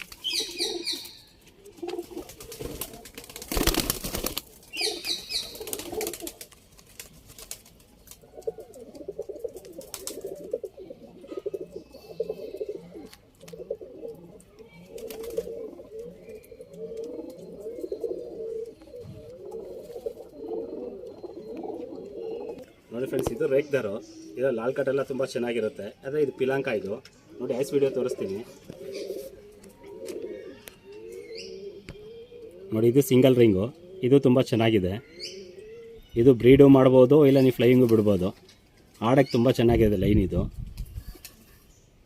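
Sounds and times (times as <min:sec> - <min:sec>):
pigeons cooing: 0:00.0 - 0:38.4.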